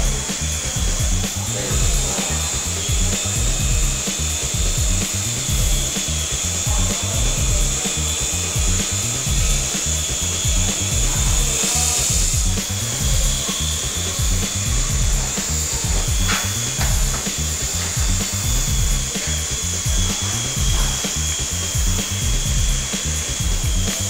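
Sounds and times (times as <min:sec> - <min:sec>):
music with pounding bass beat: 0:00.0 - 0:24.0
steady high whine: 0:00.0 - 0:24.0.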